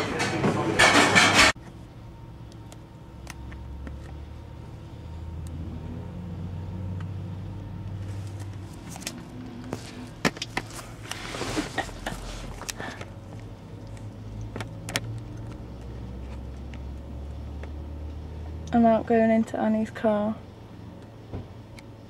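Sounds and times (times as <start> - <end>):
motor vehicle rumble: 0.0 - 22.0.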